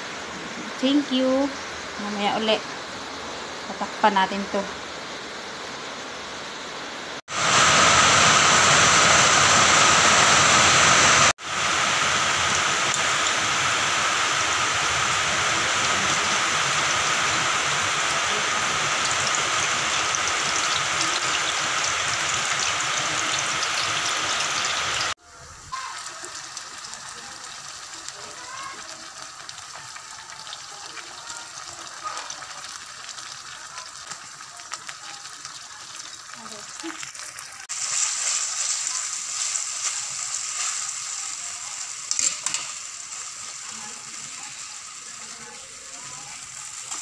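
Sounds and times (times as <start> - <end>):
potatoes sizzling in hot oil: 0.1 - 5.6, 7.3 - 47.0.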